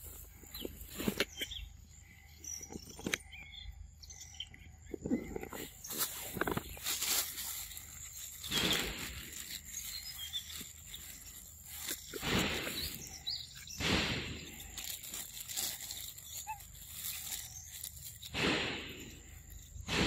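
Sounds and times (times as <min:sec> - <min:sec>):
faint bird chirps: 0:00.0 - 0:19.9.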